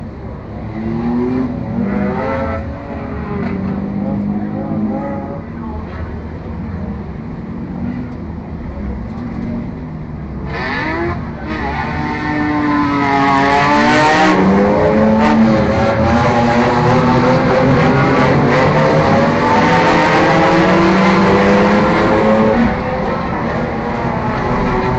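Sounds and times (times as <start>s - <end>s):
race car engines revving: 0.0s - 24.9s.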